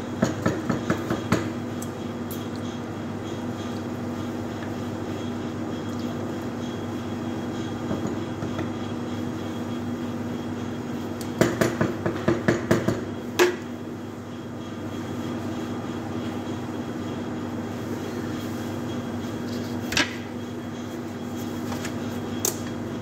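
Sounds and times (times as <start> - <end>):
kitchen fans humming: 0.0 - 23.0.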